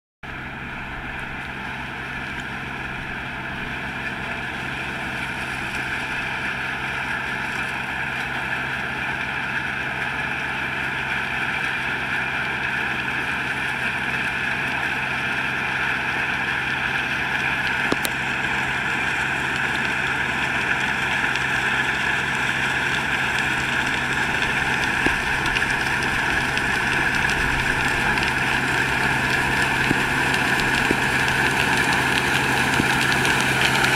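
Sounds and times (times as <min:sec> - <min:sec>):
combine harvester running: 0:00.2 - 0:33.9.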